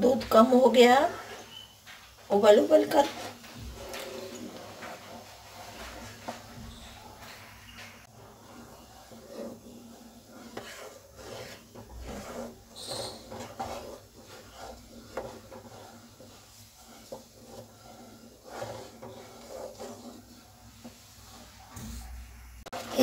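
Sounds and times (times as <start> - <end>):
wooden spatula scraping a pan: 0.0 - 23.0.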